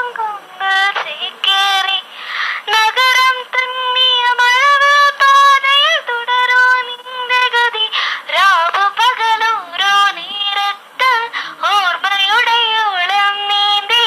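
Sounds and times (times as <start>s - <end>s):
girl singing through small speaker: 0.0s - 14.0s.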